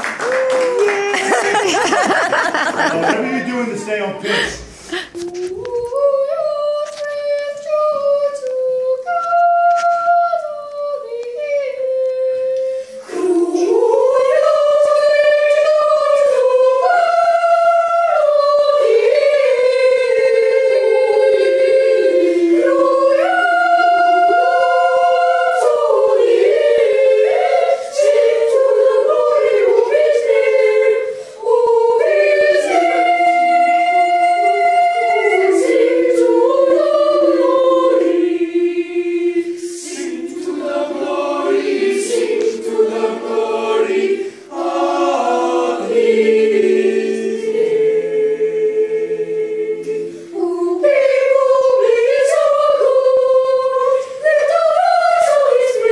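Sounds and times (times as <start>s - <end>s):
boys singing unaccompanied: 5.1s - 55.9s.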